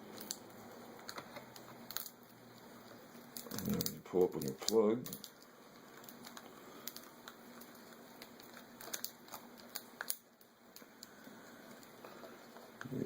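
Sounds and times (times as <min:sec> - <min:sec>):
faint clicks and crinkling: 0:00.0 - 0:13.0.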